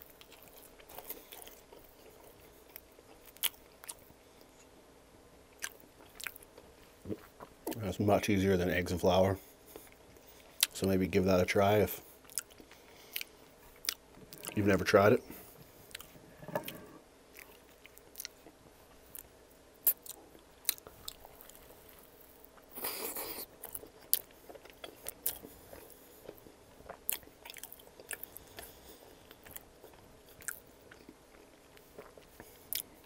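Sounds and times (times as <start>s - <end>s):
chewing sandwich: 0.0s - 4.7s, 5.5s - 7.9s, 12.0s - 33.0s.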